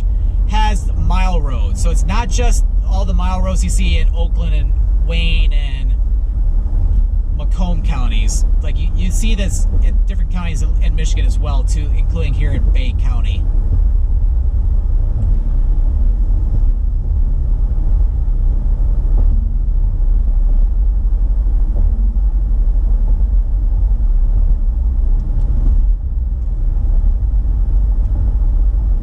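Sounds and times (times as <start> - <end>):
car driving road noise: 0.0 - 29.0.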